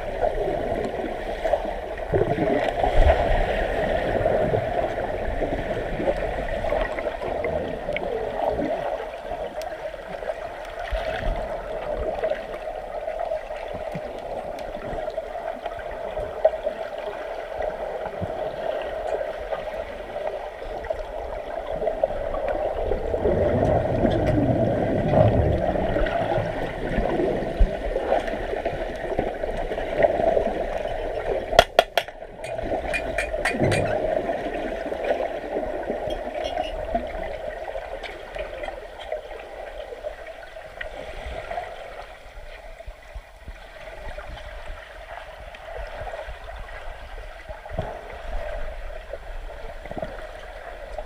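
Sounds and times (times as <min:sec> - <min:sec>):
pool water gurgling: 0:00.0 - 0:51.0.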